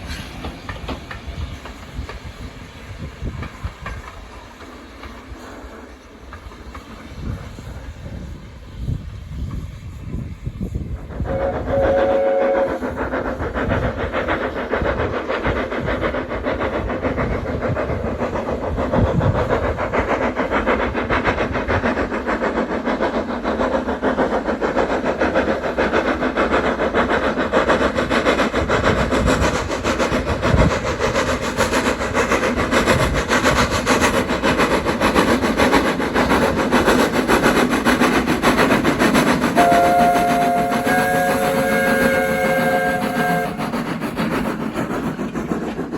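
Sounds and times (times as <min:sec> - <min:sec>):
train rumble and clatter: 0:00.0 - 0:45.9.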